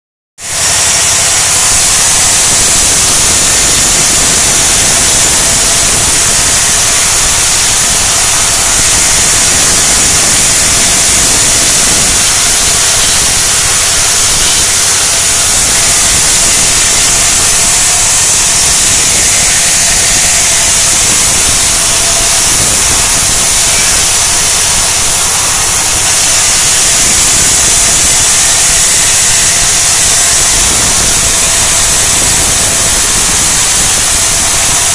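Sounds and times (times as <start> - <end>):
band saw cutting wood: 0.4 - 34.9.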